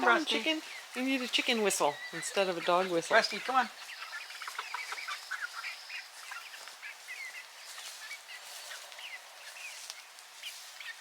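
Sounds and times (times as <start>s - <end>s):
steady outdoor hiss: 0.0s - 11.0s
bird chirps: 1.8s - 11.0s.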